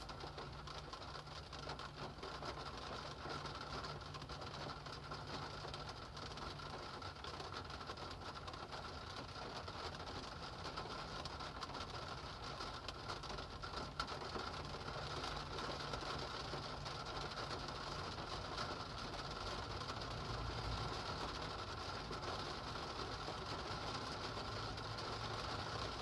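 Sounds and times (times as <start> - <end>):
low steady rumble: 0.0 - 26.0
rain falling: 0.0 - 26.0.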